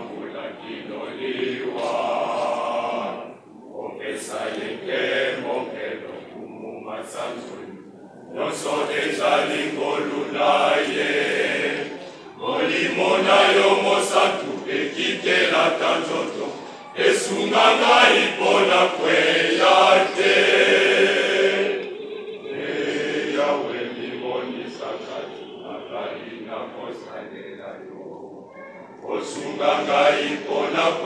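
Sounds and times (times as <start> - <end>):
youth choir singing: 0.0 - 31.0.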